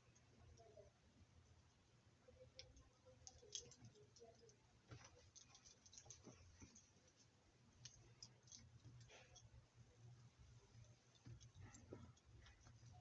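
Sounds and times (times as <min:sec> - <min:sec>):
small clicks and rustles: 0:01.6 - 0:13.0.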